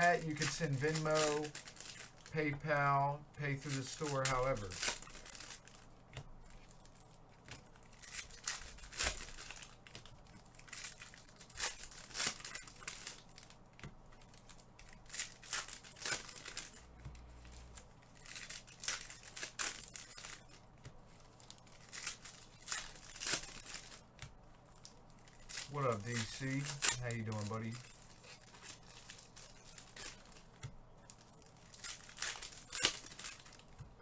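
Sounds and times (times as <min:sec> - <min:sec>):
card wrappers crinkling and tearing: 0:00.0 - 0:34.0.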